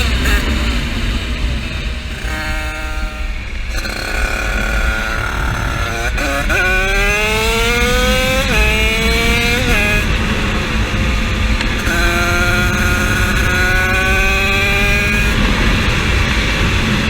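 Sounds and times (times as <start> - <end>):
motorbike engine accelerating: 0.0 - 17.0.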